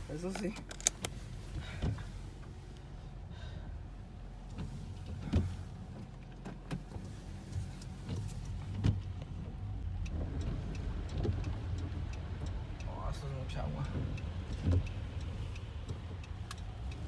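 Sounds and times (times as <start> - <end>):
car rumble inside cabin: 0.0 - 17.0.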